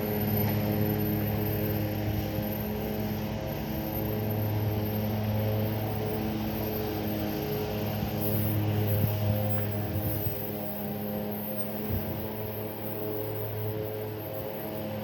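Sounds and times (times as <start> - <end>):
train locomotive droning: 0.0 - 15.0.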